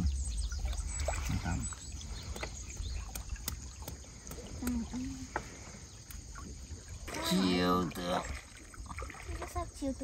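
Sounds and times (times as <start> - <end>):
river water flowing and lapping: 0.0 - 10.0.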